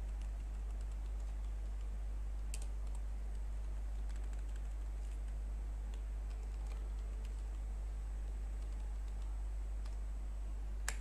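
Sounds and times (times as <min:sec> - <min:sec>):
keyboard typing: 0:00.0 - 0:10.0
steady low hum: 0:00.0 - 0:11.0.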